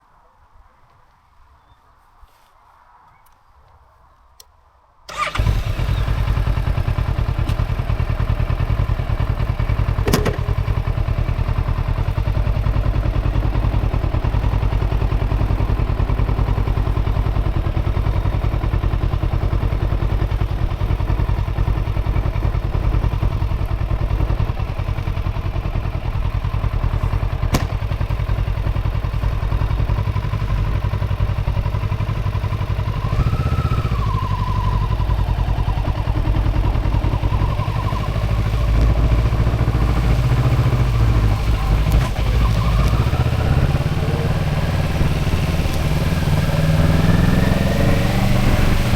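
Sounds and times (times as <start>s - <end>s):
motorcycle engine starting and running: 5.1s - 48.9s.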